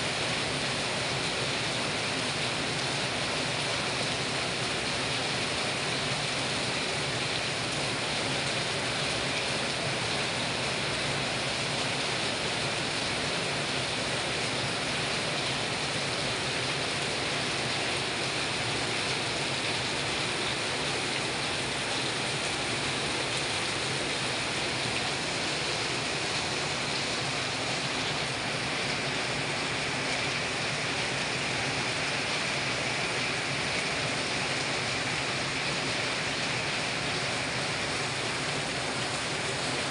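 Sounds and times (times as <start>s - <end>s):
heavy rain on leaves and roof: 0.0s - 39.9s
water streaming off roof: 0.0s - 39.9s.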